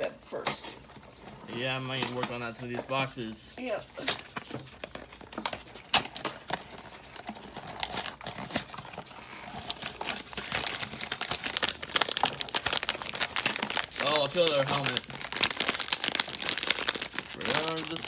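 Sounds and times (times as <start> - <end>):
foil bag crinkling: 1.0 - 18.0.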